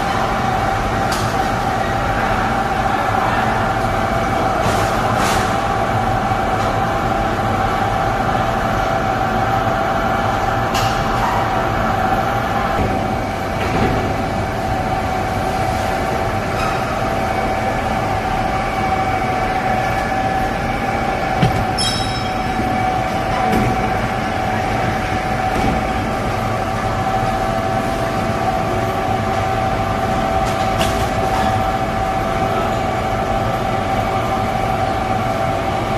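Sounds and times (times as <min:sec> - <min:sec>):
baggage conveyor rumble and whine: 0:00.0 - 0:35.9.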